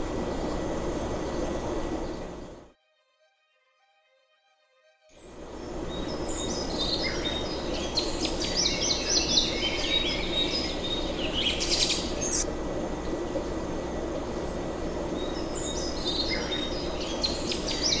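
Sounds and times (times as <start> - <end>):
birds chirping: 0.0 - 2.6, 5.3 - 18.0
low rainforest background din: 0.0 - 2.7, 5.2 - 18.0.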